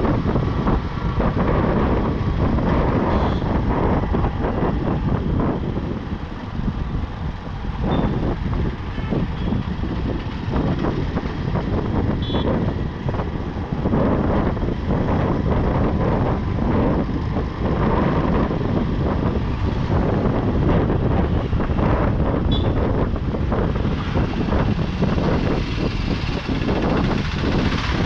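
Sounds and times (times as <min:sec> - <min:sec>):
motorbike rumble: 0:00.0 - 0:28.0
street traffic: 0:00.0 - 0:28.0
wind buffeting microphone: 0:00.0 - 0:28.0.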